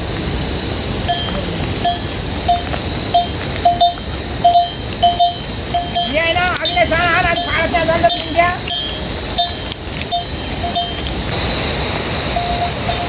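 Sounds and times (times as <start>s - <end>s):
steady high hiss: 0.0s - 13.0s
small metal bell clanking: 1.1s - 11.1s, 12.4s - 13.0s.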